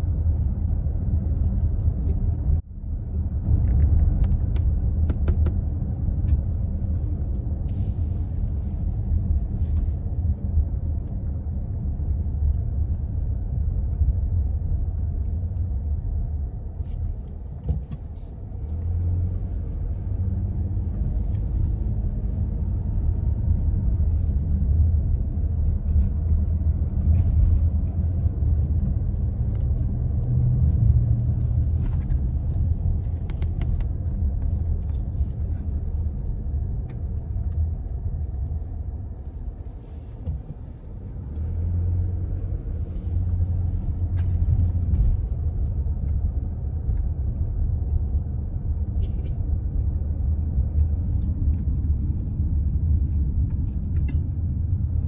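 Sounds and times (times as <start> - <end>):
car road noise from inside: 0.0 - 55.0.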